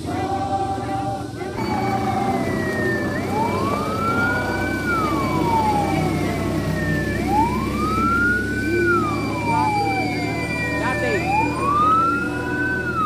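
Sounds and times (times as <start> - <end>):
low engine rumble: 0.0 - 13.0
vehicle siren wailing: 0.0 - 13.0
higher siren tone: 1.6 - 13.0.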